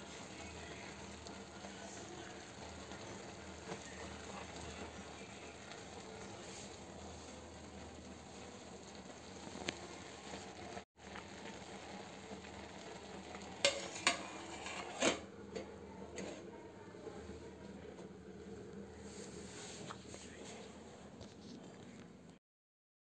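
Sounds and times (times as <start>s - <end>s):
greens simmering in a pot: 0.0s - 22.4s.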